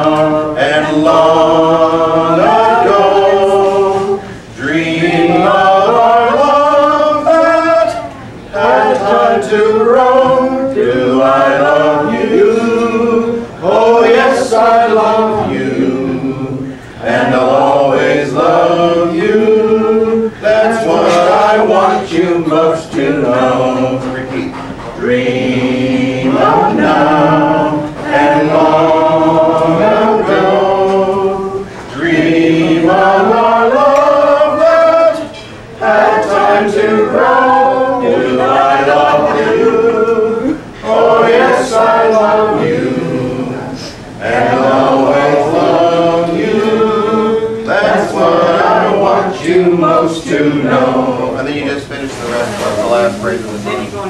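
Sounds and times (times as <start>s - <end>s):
group singing without instruments: 0.0s - 54.0s.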